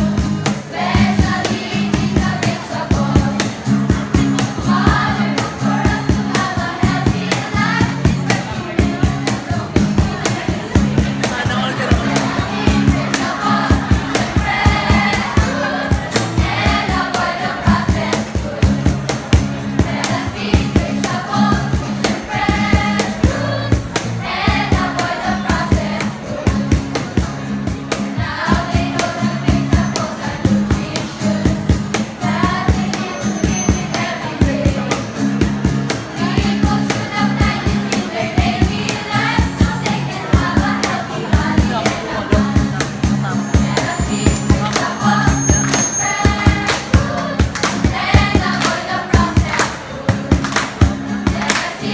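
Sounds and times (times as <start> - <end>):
group singing a jingle: 0.0 - 27.2, 27.9 - 51.9
music with a steady beat: 0.0 - 51.9.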